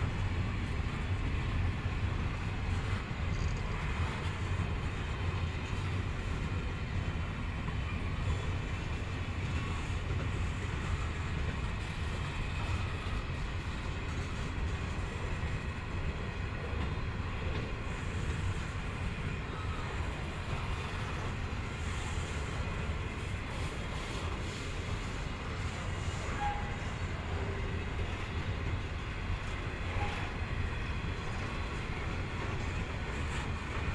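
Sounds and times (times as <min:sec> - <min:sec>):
train wheels rolling on rails: 0:00.0 - 0:33.9.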